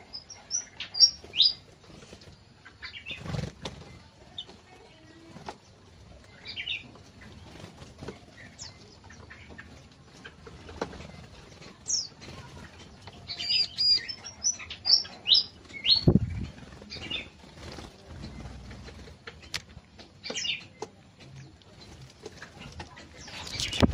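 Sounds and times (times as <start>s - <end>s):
small birds chirping: 0.0s - 23.9s
wing flutters: 1.0s - 23.9s.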